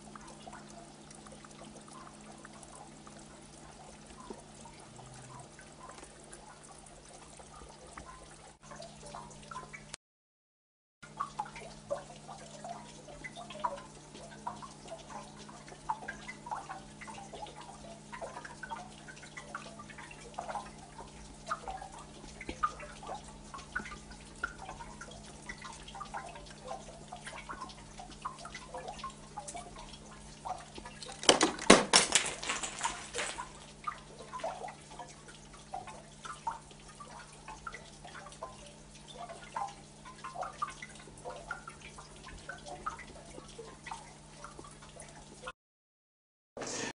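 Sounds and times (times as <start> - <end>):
water dripping and trickling: 0.0 - 10.0, 11.0 - 45.6.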